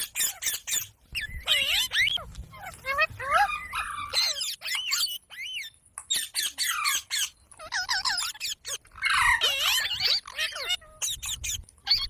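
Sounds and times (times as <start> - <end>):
parrot squawking and chirping: 0.0 - 12.0.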